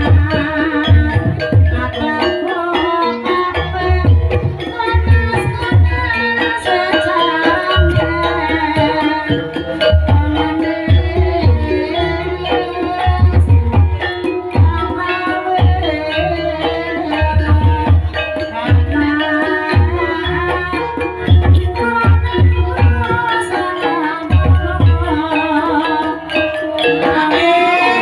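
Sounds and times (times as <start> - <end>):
gamelan music: 0.0 - 28.0.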